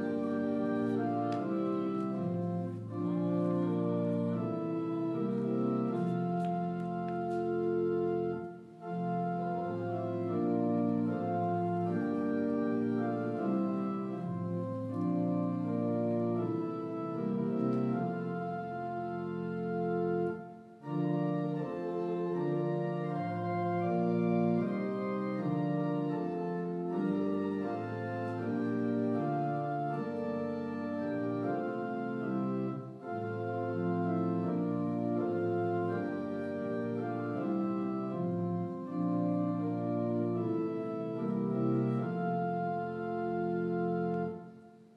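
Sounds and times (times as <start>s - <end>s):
church organ chords: 0.0s - 44.9s.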